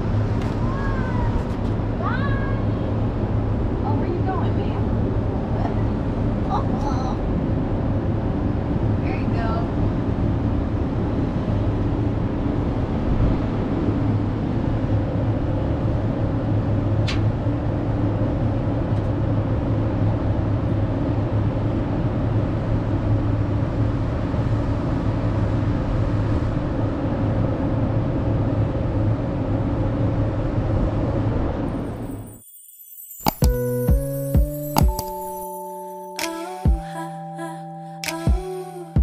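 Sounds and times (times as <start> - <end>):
traffic and machinery hum: 0.0 - 39.0.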